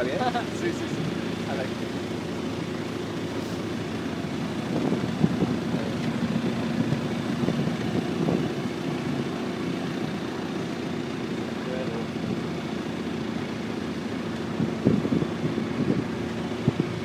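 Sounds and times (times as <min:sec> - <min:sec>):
motorboat engines droning: 0:00.0 - 0:17.0.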